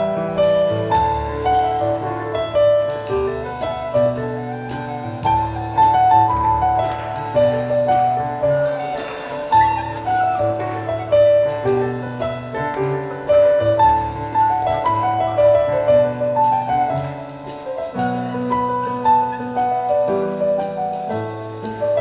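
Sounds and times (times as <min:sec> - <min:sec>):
contra dance band playing: 0:00.0 - 0:21.0.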